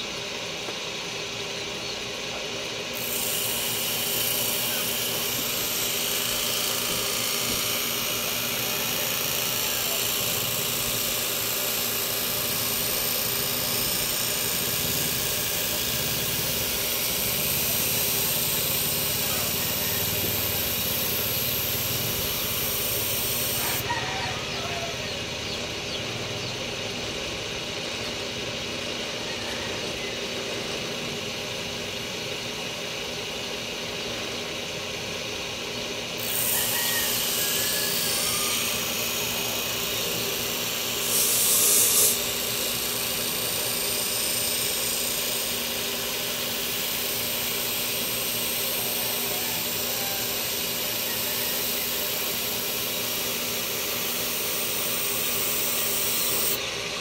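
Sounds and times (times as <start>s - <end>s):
power tool motor running: 0.0s - 57.0s.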